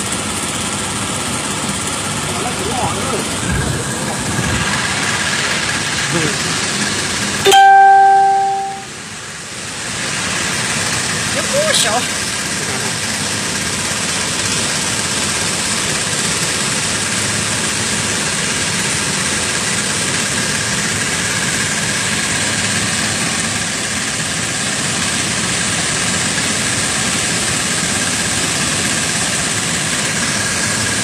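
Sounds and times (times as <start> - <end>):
continuous rushing noise: 0.0 - 7.5, 9.6 - 31.0
small boat engine running: 0.0 - 8.6, 10.0 - 31.0.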